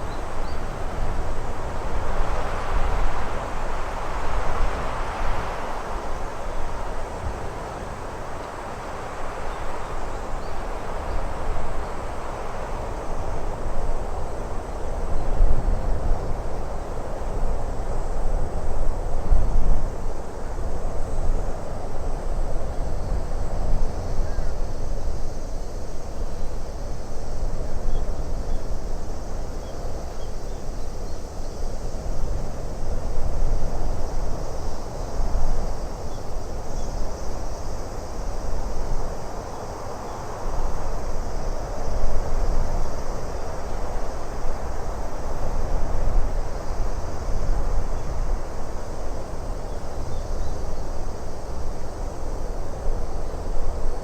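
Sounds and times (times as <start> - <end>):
gusty wind rumbling and hissing: 0.0 - 54.0.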